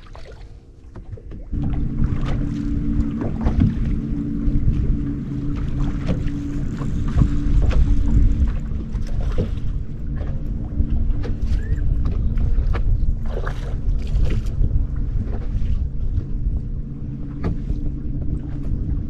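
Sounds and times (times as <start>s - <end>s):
boat motor running: 0.0s - 19.0s
wind rumbling on microphone: 0.0s - 19.0s.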